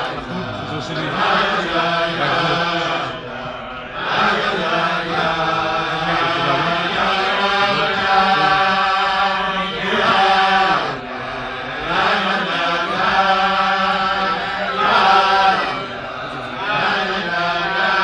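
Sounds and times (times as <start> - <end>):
men singing together: 0.0 - 18.0.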